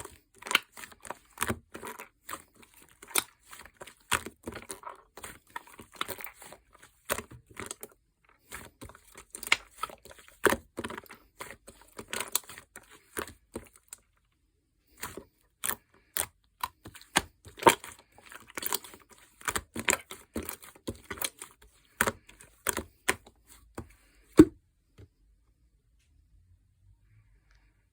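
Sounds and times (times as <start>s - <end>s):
hands squishing slime: 0.0s - 14.0s, 14.9s - 24.5s.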